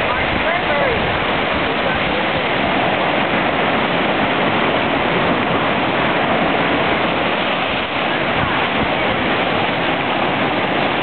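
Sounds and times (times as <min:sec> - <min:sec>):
surf breaking on rocks: 0:00.0 - 0:11.0.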